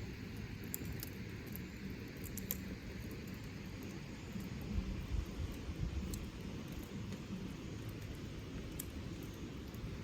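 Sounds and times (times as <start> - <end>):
campfire crackling: 0.0 - 10.0
low outdoor rumble: 0.0 - 10.0.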